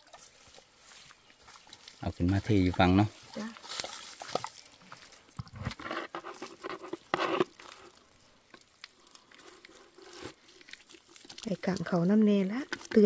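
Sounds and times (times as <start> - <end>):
fish flapping in a plastic bucket: 0.0 - 13.0
mesh net rustling: 0.0 - 13.0.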